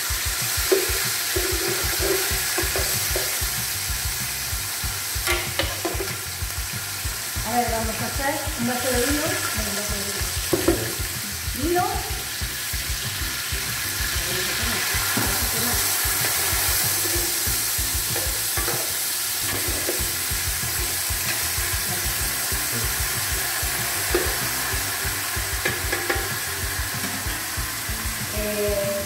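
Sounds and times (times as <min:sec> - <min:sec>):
hot liquid hissing into steam: 0:00.0 - 0:29.0
meat and vegetables sizzling in pot: 0:00.0 - 0:29.0.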